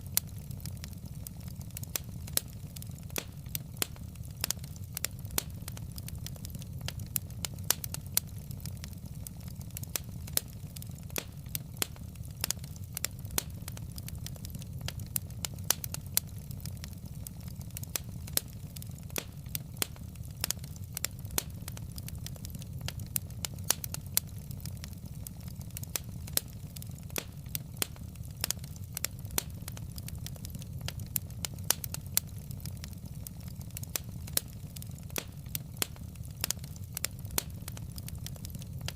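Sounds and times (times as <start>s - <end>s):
logs crackling in a fireplace: 0.0s - 38.9s.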